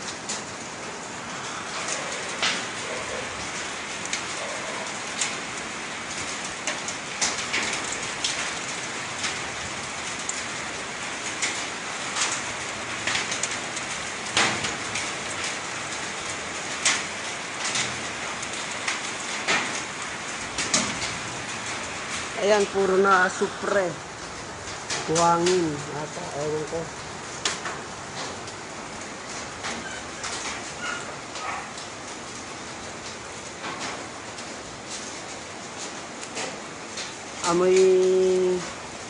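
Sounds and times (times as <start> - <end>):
heavy raindrop hits: 0.0 - 39.0
rain on hard surfaces: 0.0 - 39.0.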